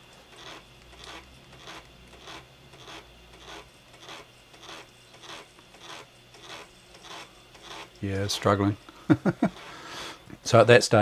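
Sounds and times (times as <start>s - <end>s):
floppy disk drive rasping: 0.0s - 11.0s.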